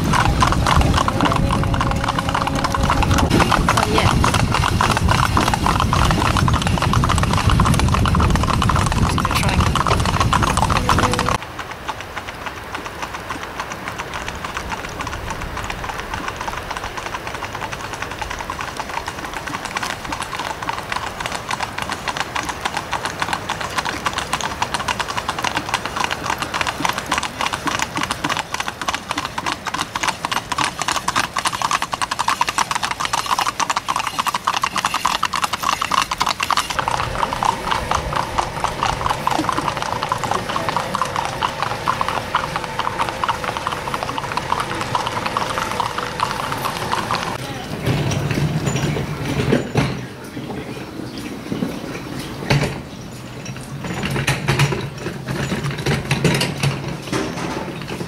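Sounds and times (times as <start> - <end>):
hooves clip-clopping on tarmac: 0.0 - 58.0.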